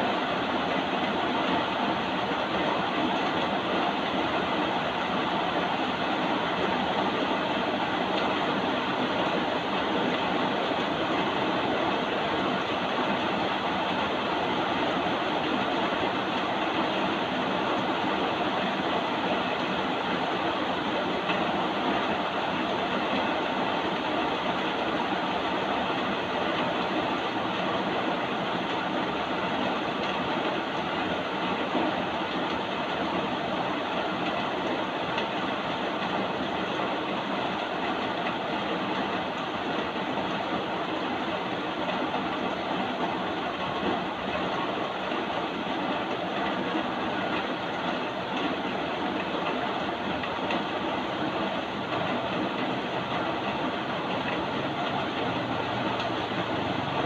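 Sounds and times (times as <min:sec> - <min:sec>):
steady rainfall hiss: 0:00.0 - 0:57.0.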